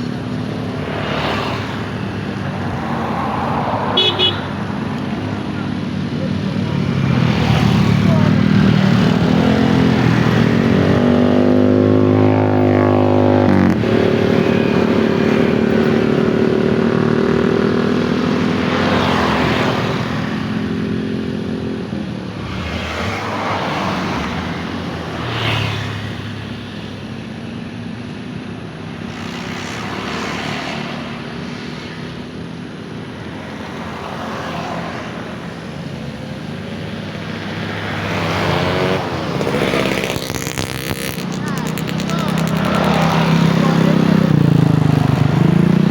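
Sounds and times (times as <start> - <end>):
vehicles passing by: 0.0 - 45.9.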